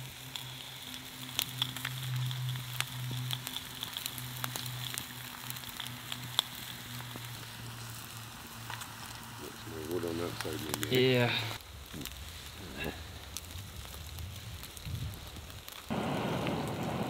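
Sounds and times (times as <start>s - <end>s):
campfire crackling: 0.0s - 17.0s
fire pops: 0.0s - 17.0s.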